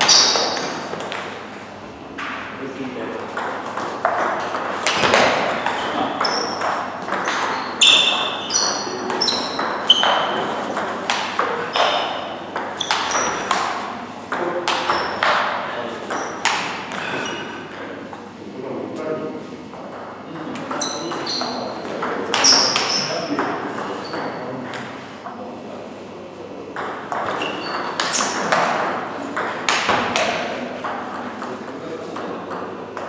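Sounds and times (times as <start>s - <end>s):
ping pong ball hitting bats: 0.0s - 18.2s, 19.7s - 25.4s, 26.8s - 33.0s
ping pong ball bouncing on table: 2.2s - 17.1s, 17.7s - 18.0s, 19.7s - 25.0s, 26.8s - 33.0s.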